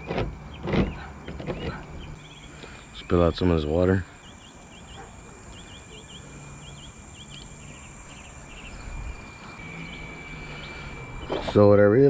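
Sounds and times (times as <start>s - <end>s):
bird chirping: 0.0s - 11.8s
high insect trill: 1.6s - 12.0s.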